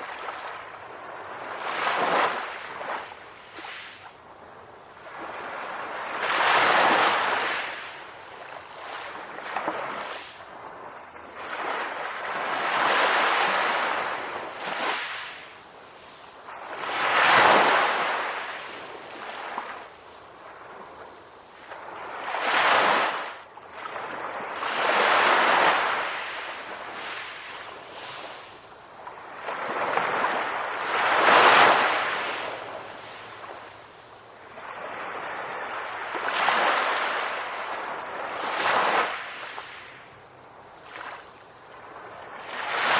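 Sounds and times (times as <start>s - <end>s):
ocean waves breaking on shore: 0.0s - 42.9s.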